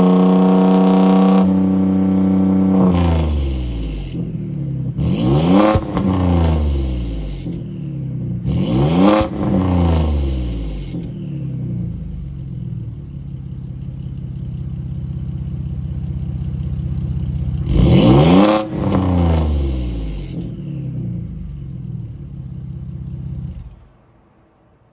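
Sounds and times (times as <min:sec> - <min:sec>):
truck engine idling and revving: 0:00.0 - 0:24.3.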